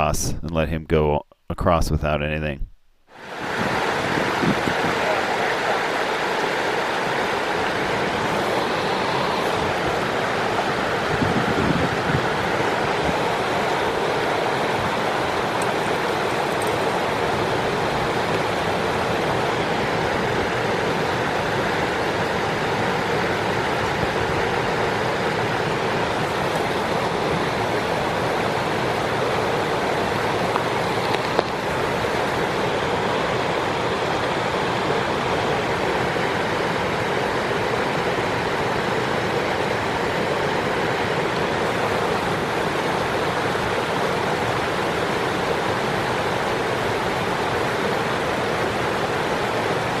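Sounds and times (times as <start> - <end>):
creek water rushing: 3.2 - 50.0.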